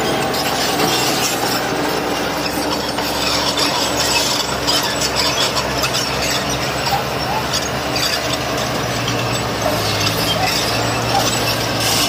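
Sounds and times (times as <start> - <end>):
bulldozer diesel engine running: 0.0 - 12.0
metallic clatter of tracks: 0.0 - 12.0
stone grinding being pushed: 0.0 - 12.0.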